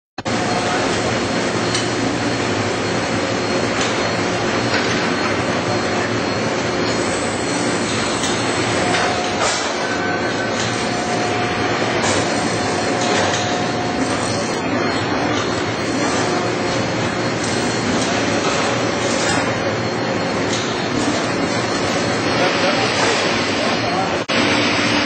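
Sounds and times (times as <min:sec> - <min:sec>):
machine whining: 0:00.2 - 0:25.0
slitting machine running: 0:00.2 - 0:25.0.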